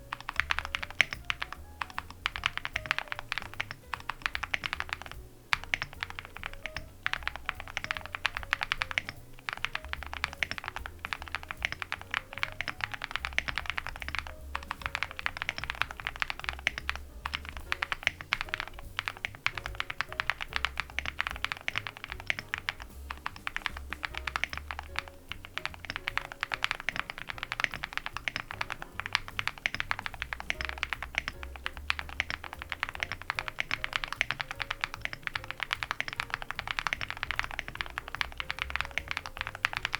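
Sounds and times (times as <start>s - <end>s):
fast typing on mechanical keyboard: 0.0s - 39.9s
soft background music with bass: 0.0s - 39.9s.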